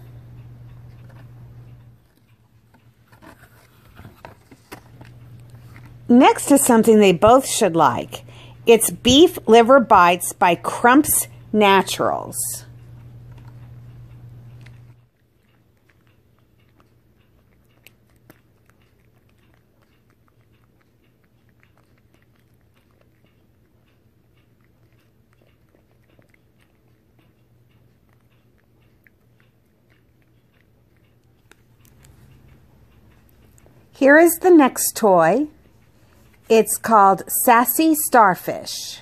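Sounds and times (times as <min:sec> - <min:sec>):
cats crunching treats: 0:00.0 - 0:08.6, 0:11.1 - 0:37.3.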